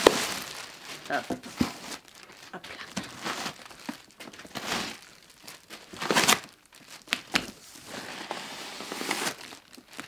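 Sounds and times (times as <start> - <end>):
packing material rustling and crinkling: 0.0 - 10.0.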